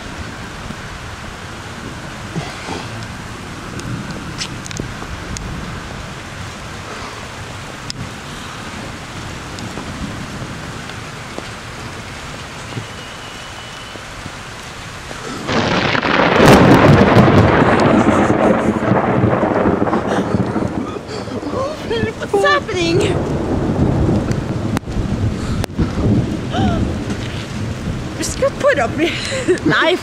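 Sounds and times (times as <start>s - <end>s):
thunder clap rumbling: 0.0s - 13.1s, 14.1s - 30.0s
steady rain: 0.0s - 30.0s.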